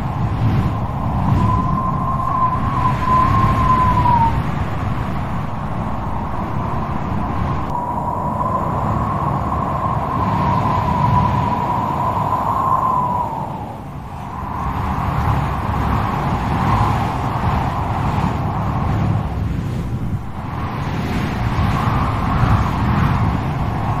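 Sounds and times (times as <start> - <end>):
strong wind rumbling: 0.0 - 24.0
wind whistling: 0.0 - 24.0.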